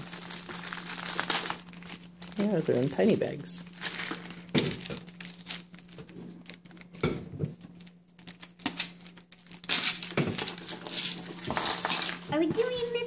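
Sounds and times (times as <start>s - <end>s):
plastic bags crinkling: 0.0s - 12.9s
faint steady hum: 0.0s - 13.0s.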